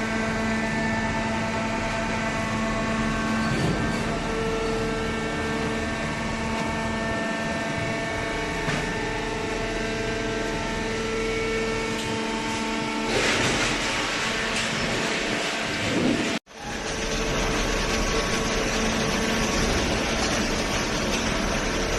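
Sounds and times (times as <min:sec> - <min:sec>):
hydraulic press motor hum: 0:00.0 - 0:21.9.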